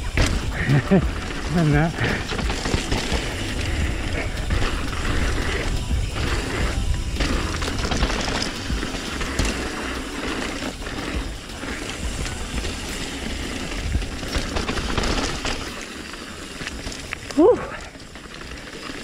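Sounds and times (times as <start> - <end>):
bike rattling over bumps: 0.0 - 19.0
tyres rolling over gravel: 0.0 - 19.0.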